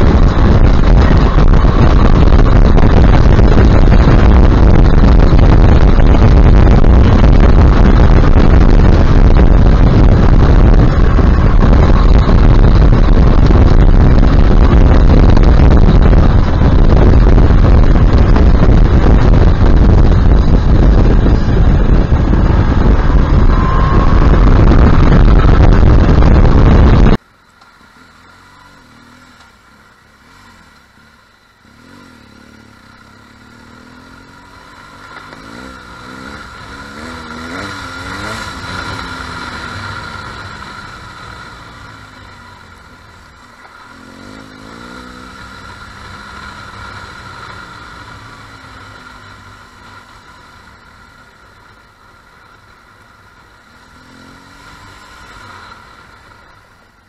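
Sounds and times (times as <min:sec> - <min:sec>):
motorcycle engine revving: 0:00.0 - 0:57.0
wind rush on camera: 0:00.0 - 0:57.0.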